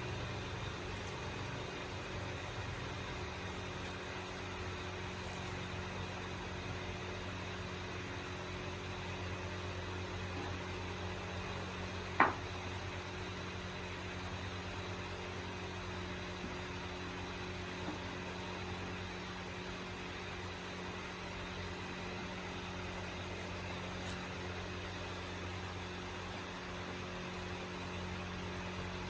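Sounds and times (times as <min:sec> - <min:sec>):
steady machine hum: 0:00.0 - 0:29.0.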